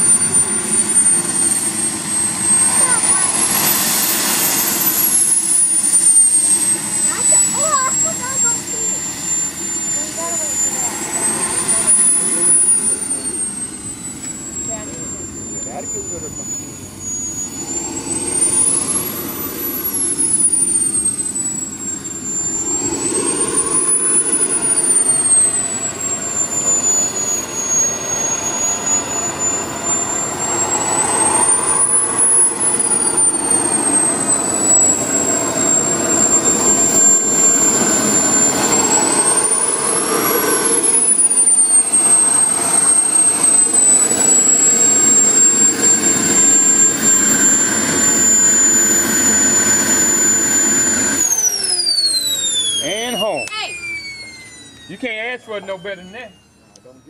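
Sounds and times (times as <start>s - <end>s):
model jet turbine whine: 0.0s - 57.0s.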